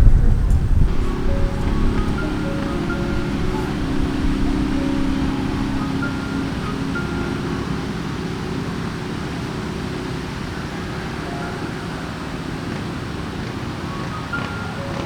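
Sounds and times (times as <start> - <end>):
strong wind blowing: 0.0 - 15.0
wind buffeting microphone: 0.0 - 15.0.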